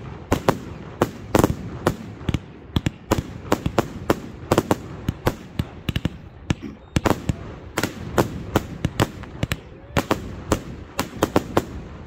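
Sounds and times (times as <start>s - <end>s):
fireworks crackling rumble: 0.0s - 12.0s
fireworks popping: 0.0s - 12.0s.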